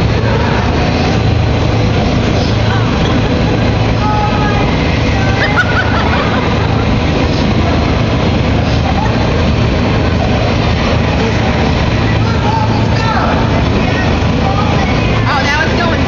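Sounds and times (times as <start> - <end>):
fan-driven wind buffeting microphone: 0.0 - 16.0
low steady hum: 0.0 - 16.0.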